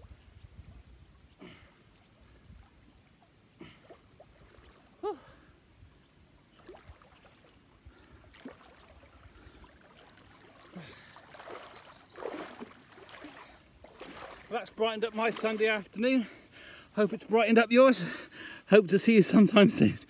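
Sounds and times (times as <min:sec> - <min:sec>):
water splashing and swishing: 0:00.0 - 0:17.4.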